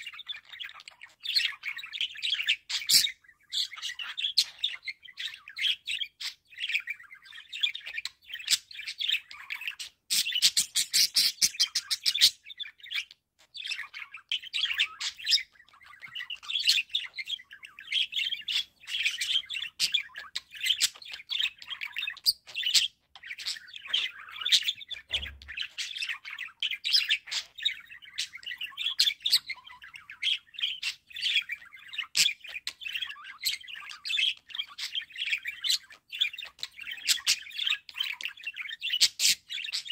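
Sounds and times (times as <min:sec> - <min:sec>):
budgerigars chattering: 0:00.0 - 0:39.9
budgerigars squawking: 0:00.0 - 0:39.9.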